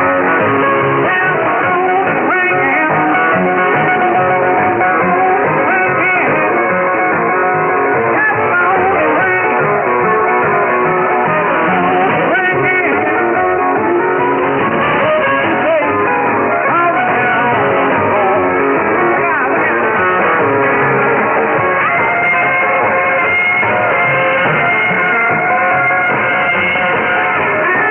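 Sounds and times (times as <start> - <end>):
guitar music over radio: 0.0 - 27.9.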